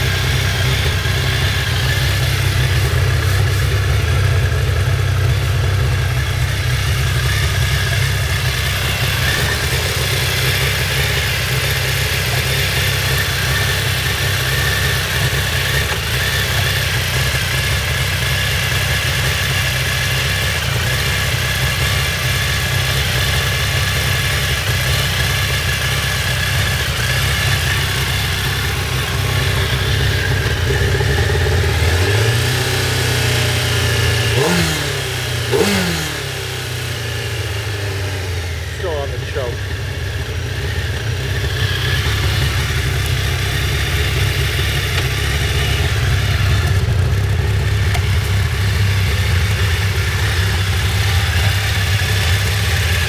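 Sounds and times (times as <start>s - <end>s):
motorcycle engine fast idle: 0.0s - 53.0s.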